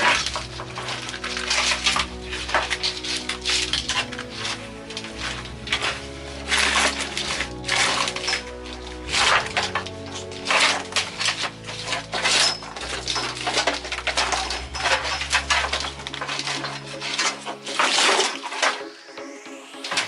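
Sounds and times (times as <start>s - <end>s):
sustained bass notes: 0.0s - 17.6s
rising synth sweep: 0.0s - 20.0s.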